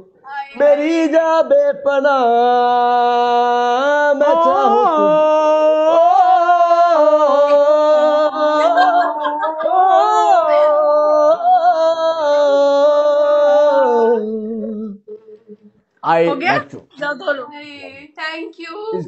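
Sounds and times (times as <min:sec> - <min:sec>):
person singing unaccompanied: 0:00.3 - 0:18.1.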